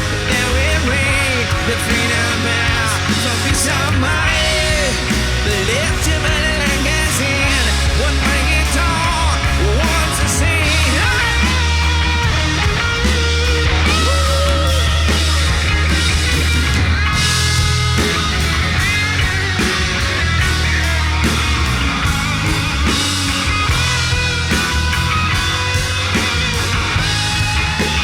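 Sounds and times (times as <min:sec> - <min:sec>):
bass guitar: 0:00.0 - 0:28.0
drums: 0:00.0 - 0:28.0
electric lead guitar: 0:00.0 - 0:28.0.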